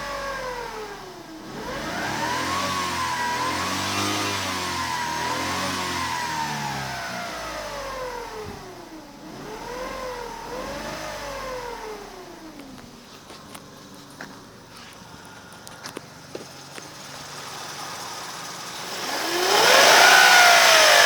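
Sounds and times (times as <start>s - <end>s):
car engine revving: 0.0s - 21.0s
engine whine: 0.0s - 21.0s.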